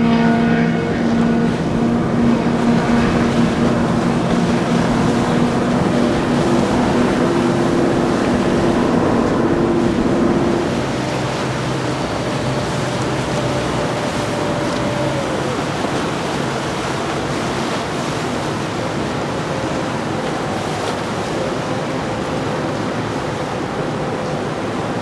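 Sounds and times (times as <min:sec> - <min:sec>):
boat engine drone: 0:00.0 - 0:25.0
rush of water and wind: 0:00.0 - 0:25.0.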